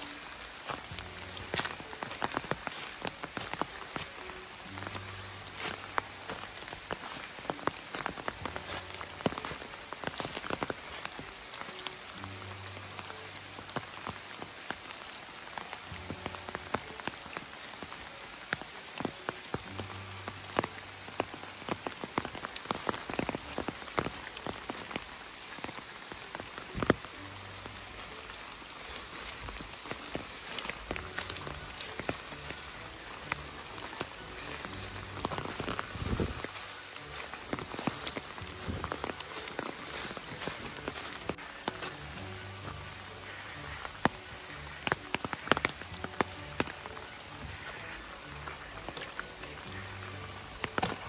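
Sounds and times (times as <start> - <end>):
pattering and crackling on leaves: 0.0 - 51.0.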